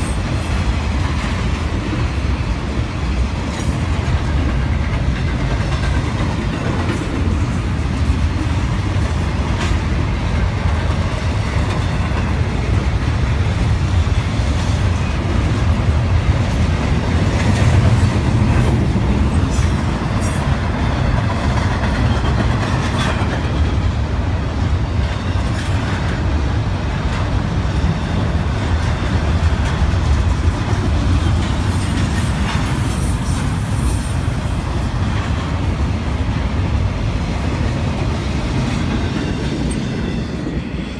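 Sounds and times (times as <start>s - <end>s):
steel wheels rumbling on rail: 0.0s - 40.9s.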